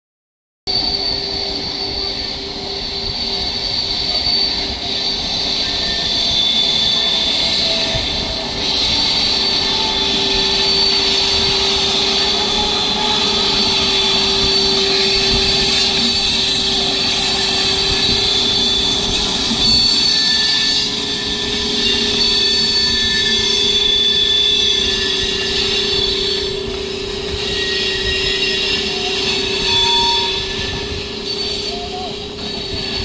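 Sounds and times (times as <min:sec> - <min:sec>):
electric locomotive whine: 0:00.7 - 0:33.0.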